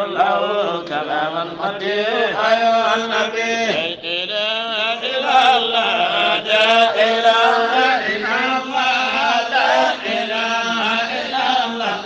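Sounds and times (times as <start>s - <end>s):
person chanting devotional song: 0.0s - 12.0s.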